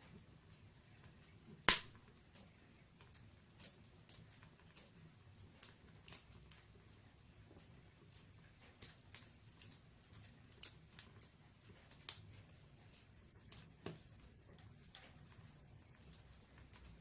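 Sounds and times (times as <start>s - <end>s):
firewood crackling: 0.0s - 17.0s
fire pops: 0.9s - 17.0s.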